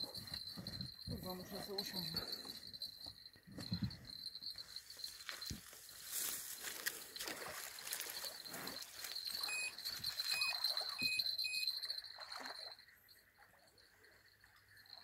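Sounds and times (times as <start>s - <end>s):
cricket trill: 0.0s - 15.0s.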